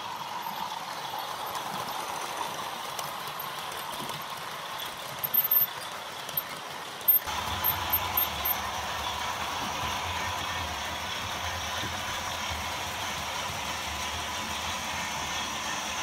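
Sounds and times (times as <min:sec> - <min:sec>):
model train whirring on track: 0:00.0 - 0:16.0.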